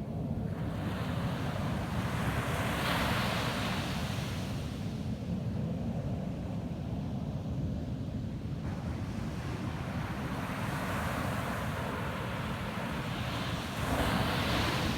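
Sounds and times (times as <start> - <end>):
low rumble of surf: 0.0 - 14.9
wind: 0.0 - 14.9.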